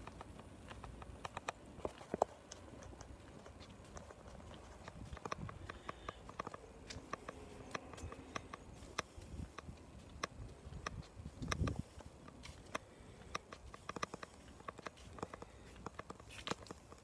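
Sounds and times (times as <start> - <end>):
footsteps on pavement: 0.0 - 17.0.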